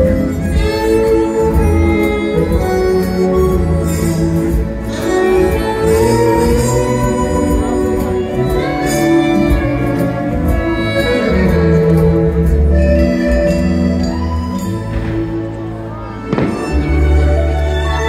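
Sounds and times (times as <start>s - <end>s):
instrumental show music: 0.0s - 18.0s.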